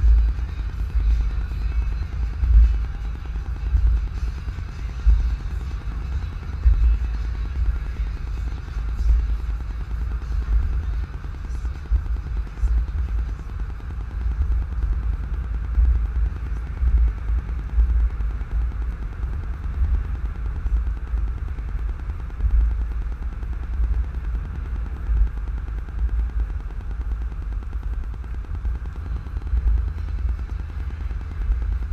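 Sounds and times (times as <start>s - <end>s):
vehicle engine rumble: 0.0s - 31.9s.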